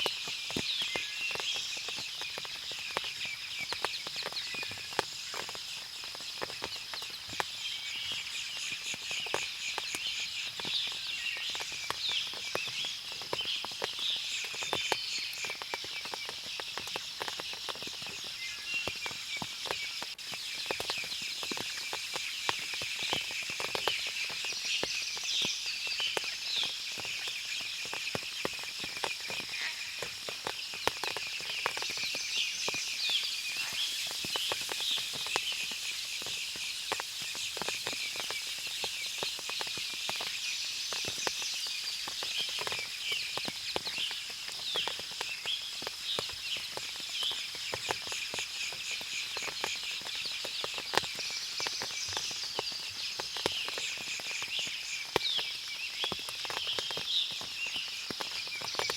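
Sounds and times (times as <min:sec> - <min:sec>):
small ticks: 0:00.0 - 0:58.9.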